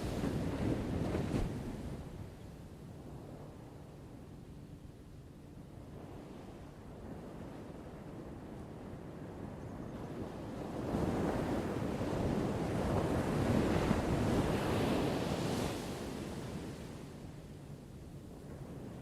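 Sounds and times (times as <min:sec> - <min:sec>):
low rumble of surf: 0:00.0 - 0:19.0
wind: 0:00.0 - 0:19.0.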